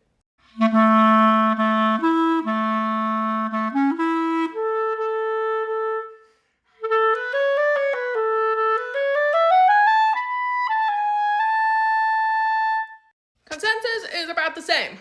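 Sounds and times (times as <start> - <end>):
clarinet playing: 0.4 - 13.1.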